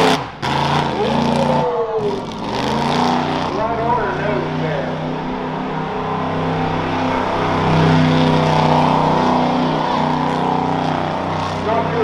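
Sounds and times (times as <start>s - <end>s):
pickup truck engine running hard: 0.0s - 12.0s
skid steer engine running: 0.0s - 12.0s.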